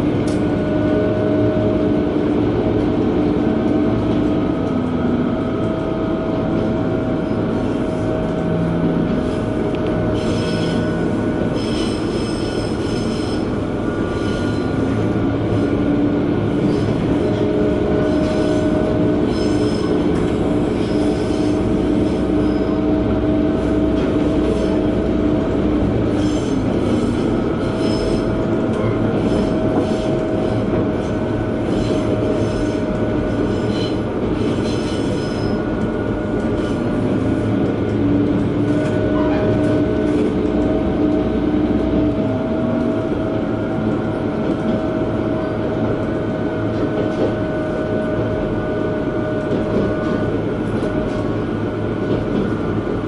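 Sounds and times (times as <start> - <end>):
railcar engine running: 0.0 - 53.0.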